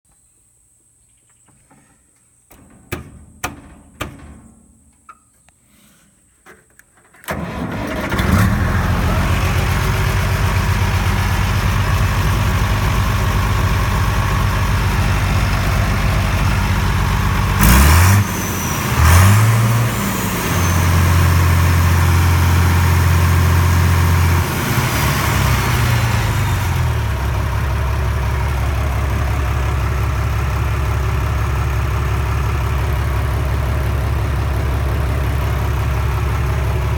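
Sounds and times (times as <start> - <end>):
diesel tractor engine starting and revving: 7.2 - 36.9.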